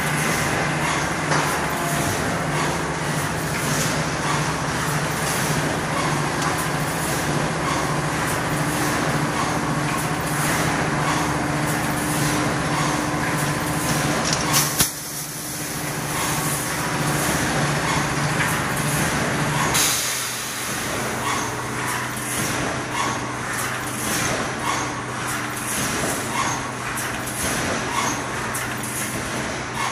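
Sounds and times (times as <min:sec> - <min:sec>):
welding machine mechanical din: 0:00.0 - 0:29.9.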